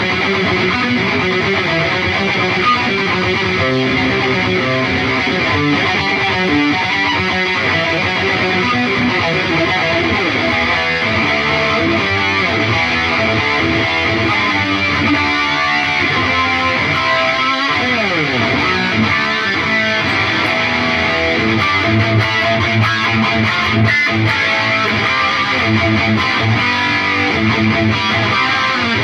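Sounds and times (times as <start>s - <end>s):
electric guitar lead playing: 0.0s - 29.0s.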